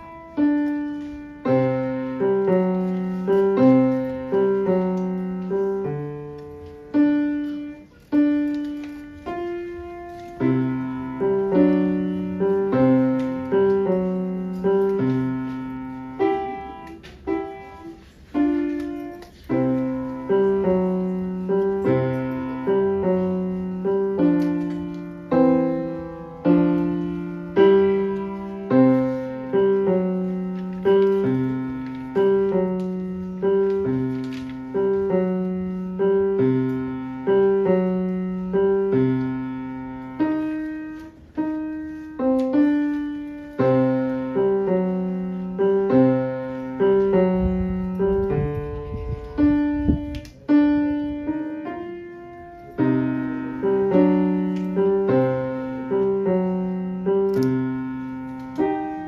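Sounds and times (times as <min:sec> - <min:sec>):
grand piano notes and chords: 0:00.0 - 0:59.0.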